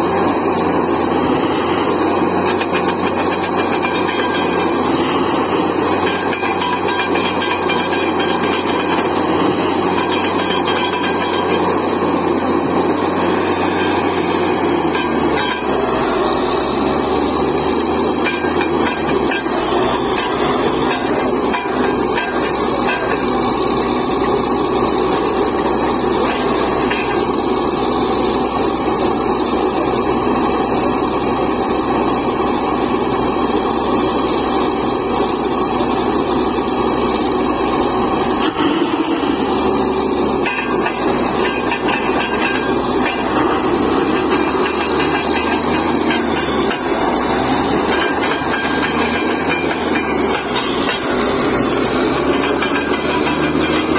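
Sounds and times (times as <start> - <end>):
drilling rig engine and drill: 0.0 - 53.9.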